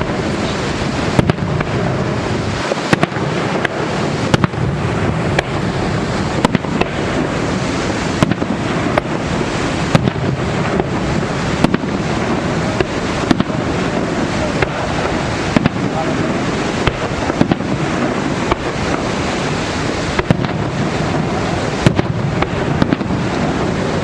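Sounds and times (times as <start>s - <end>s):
fireworks bangs and pops: 0.0s - 24.0s
steady rushing roar: 0.0s - 24.0s.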